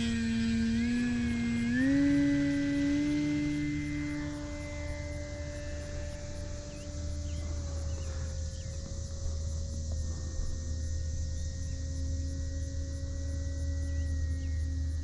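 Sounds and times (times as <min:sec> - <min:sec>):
model airplane motor whine: 0:00.0 - 0:15.0.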